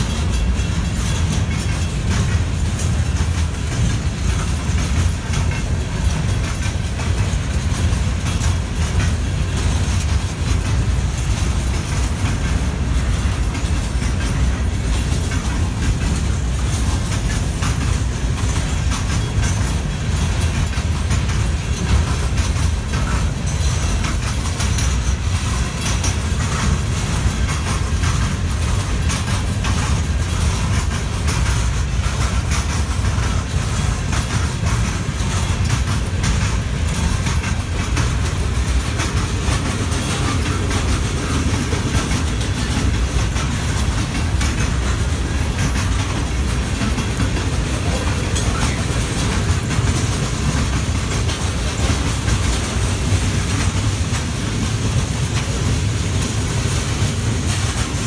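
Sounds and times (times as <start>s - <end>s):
freight cars rumbling: 0.0s - 58.0s
wheels clicking over rail joints: 0.0s - 58.0s.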